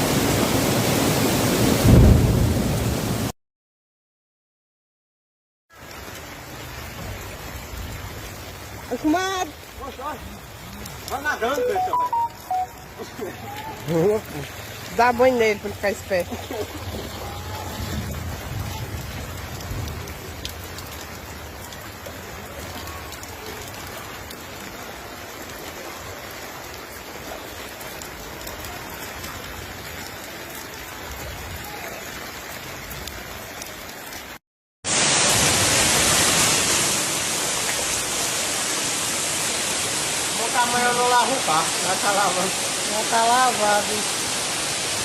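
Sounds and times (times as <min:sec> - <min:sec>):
heavy rain hissing: 0:00.0 - 0:03.3, 0:05.8 - 0:32.0, 0:34.9 - 0:45.0
running floodwater: 0:00.0 - 0:03.3, 0:05.7 - 0:45.0.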